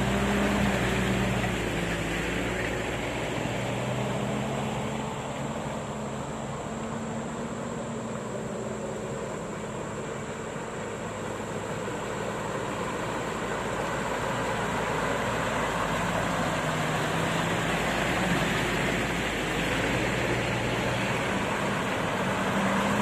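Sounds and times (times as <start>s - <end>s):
pickup truck engines under load: 0.0s - 23.0s.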